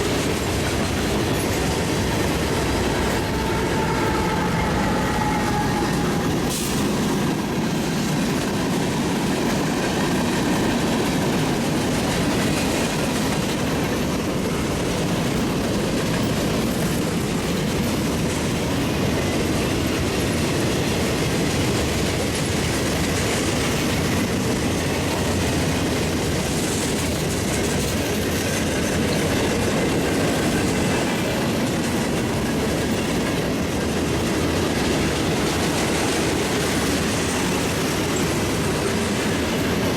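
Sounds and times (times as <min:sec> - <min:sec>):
freight train rolling past: 0:00.0 - 0:39.9
steel wheels clattering on rails: 0:00.0 - 0:39.9.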